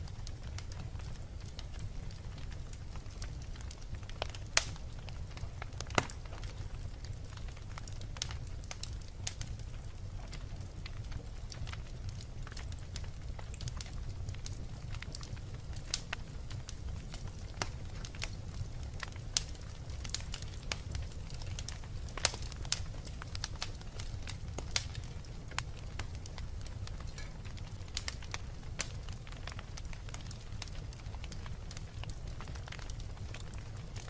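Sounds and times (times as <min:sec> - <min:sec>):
fire crackles and pops: 0:00.0 - 0:34.0
flames rumbling: 0:00.0 - 0:34.0.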